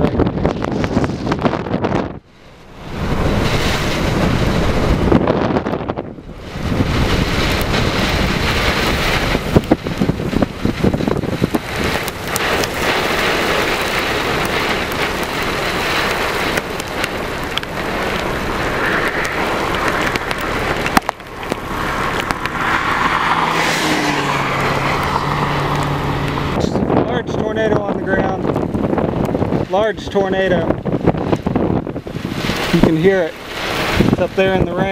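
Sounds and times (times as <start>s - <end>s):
wind and heavy rain: 0.0s - 34.9s.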